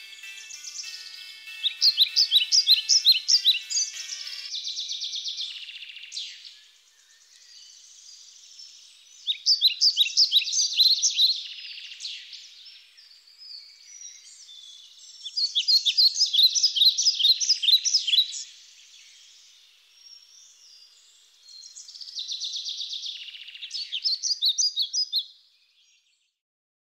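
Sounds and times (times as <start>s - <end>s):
songbird chirping: 0.0s - 26.4s.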